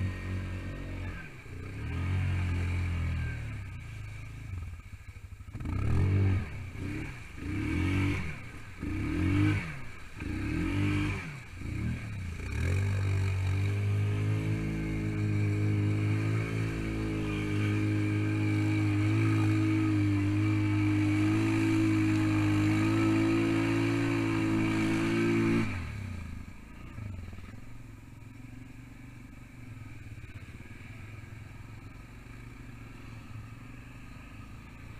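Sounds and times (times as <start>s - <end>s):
atv engine revving: 0.0s - 34.9s.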